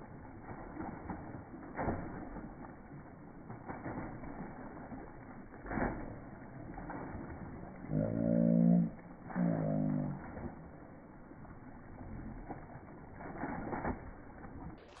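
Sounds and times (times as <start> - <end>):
low muffled splashes in mud: 0.0 - 15.0.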